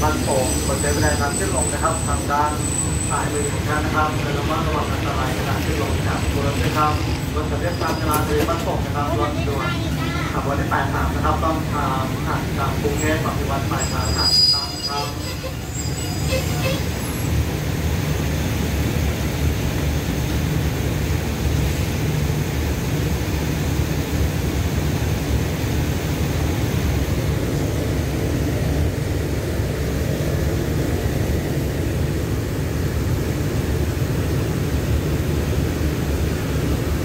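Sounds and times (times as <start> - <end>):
diesel train engines rumbling: 0.0 - 37.0.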